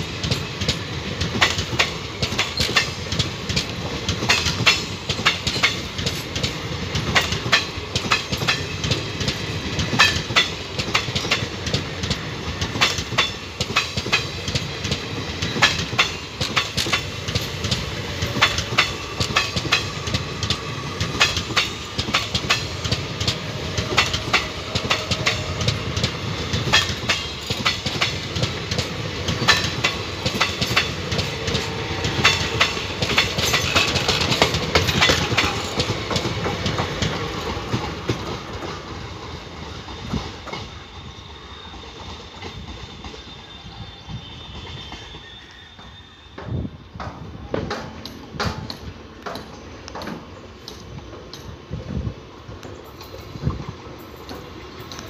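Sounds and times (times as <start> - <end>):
train wheels clattering over rails: 0.0 - 45.3, 46.3 - 55.0.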